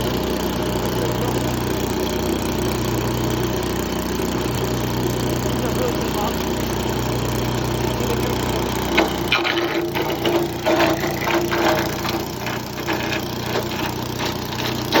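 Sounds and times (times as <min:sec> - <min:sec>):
wood chipper engine running: 0:00.0 - 0:15.0.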